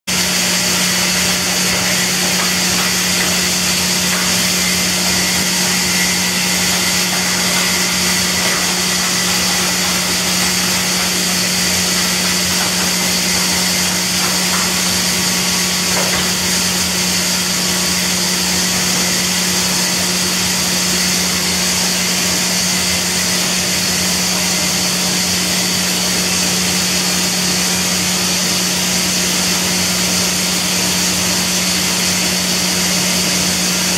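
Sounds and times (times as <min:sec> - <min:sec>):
bandsaw mill motor running: 0:00.1 - 0:33.9.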